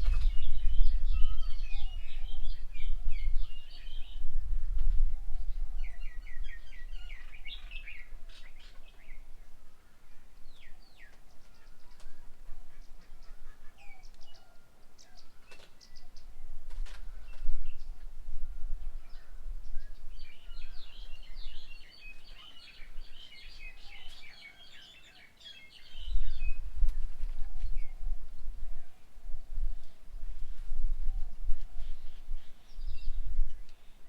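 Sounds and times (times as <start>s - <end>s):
small birds chirping: 0.0s - 18.1s, 18.8s - 29.1s.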